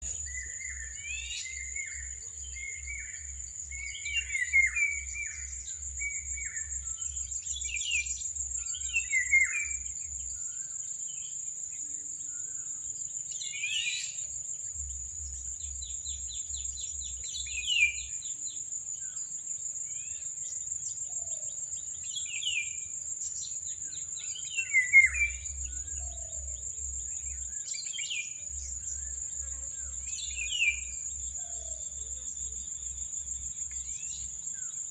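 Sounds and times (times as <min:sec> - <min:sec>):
insect chorus: 0:00.0 - 0:34.9.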